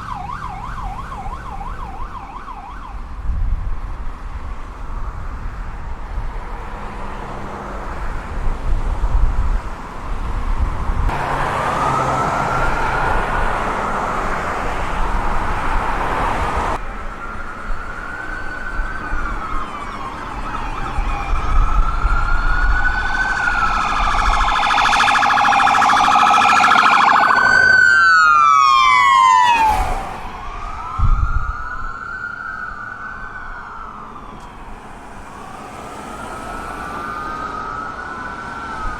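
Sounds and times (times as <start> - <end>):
emergency vehicle sirens wailing: 0.0 - 38.9.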